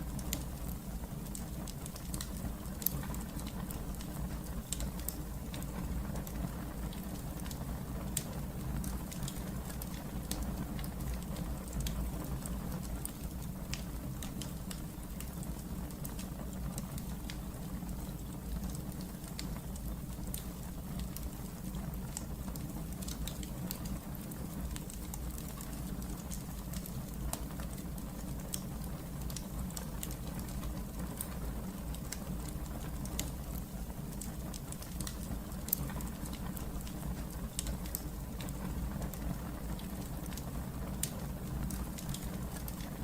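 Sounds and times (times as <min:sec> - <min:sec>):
low rumble of flames: 0:00.0 - 0:43.0
wood fire crackling and popping: 0:00.0 - 0:43.0.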